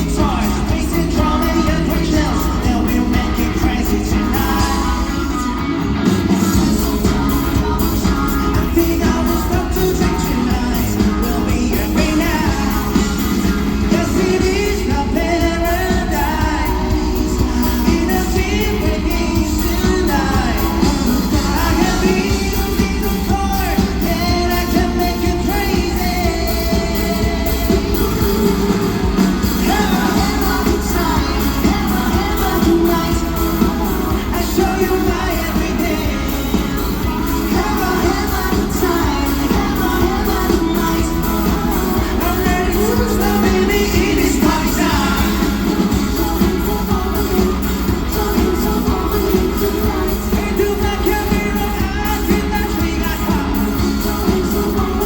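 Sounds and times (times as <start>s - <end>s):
bass: 0.0s - 55.0s
drums: 0.0s - 55.0s
guitars: 0.0s - 55.0s
lead singer's voice: 0.0s - 55.0s
pop-rock band playing: 0.0s - 55.0s.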